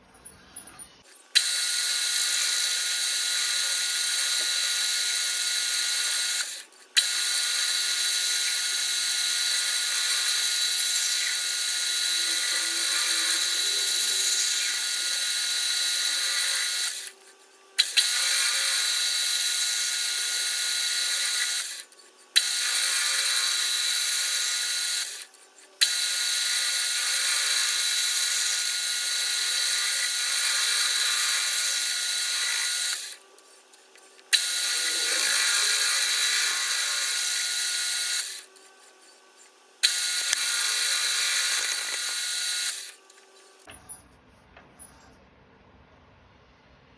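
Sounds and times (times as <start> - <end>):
machine motor whining: 1.3 - 43.7.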